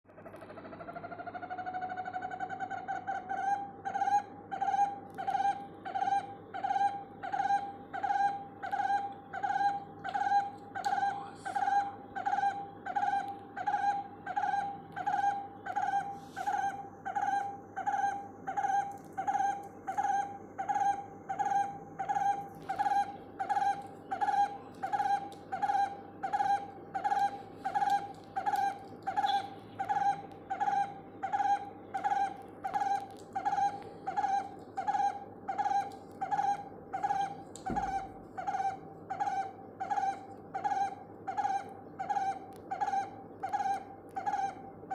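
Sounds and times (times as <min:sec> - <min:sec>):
barbet calling: 0:03.3 - 0:44.6.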